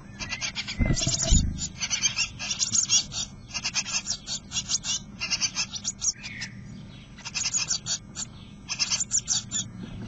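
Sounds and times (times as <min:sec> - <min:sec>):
nestlings begging calls: 0:00.0 - 0:10.0.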